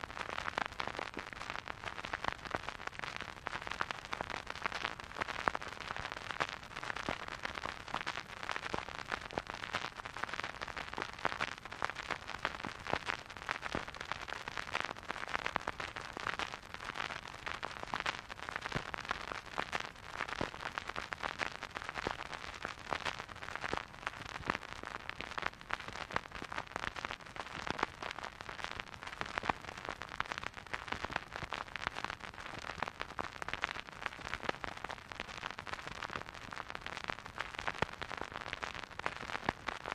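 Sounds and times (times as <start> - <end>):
vinyl record crackle and hiss: 0.0 - 39.9.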